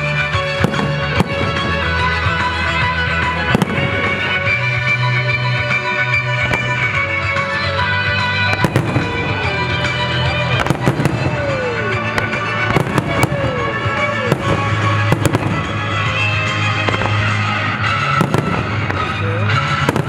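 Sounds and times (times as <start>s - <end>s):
music soundtrack: 0.0s - 20.0s.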